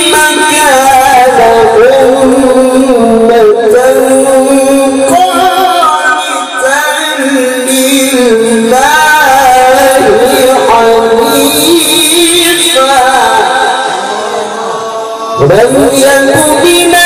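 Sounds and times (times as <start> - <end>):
man chanting through loudspeaker: 0.0 - 17.0.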